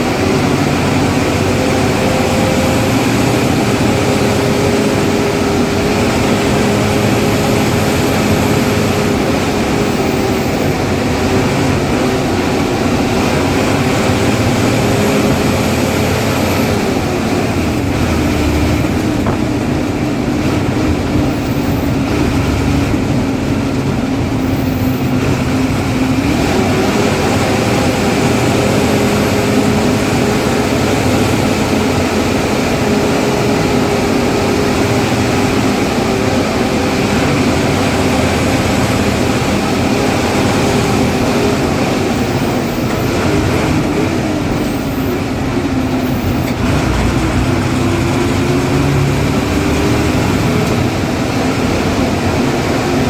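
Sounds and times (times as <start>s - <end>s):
bus diesel engine running hard: 0.0s - 53.0s.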